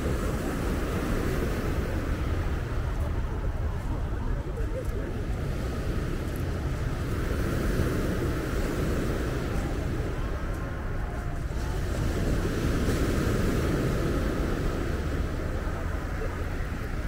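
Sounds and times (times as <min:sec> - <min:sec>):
surf washing over pebbles: 0:00.0 - 0:17.0
wind on microphone: 0:00.0 - 0:17.0.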